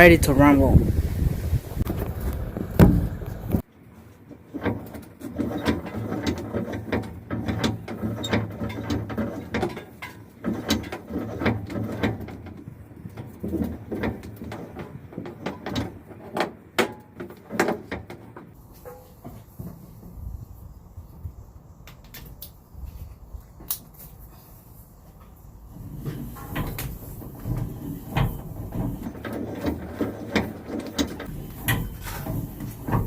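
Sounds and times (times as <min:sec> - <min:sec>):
outdoor noise: 0:00.0 - 0:33.0.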